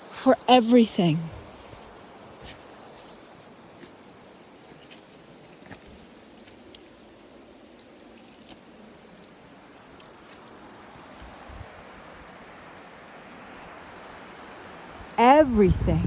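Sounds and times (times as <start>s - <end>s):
stream water running: 0.0s - 16.0s.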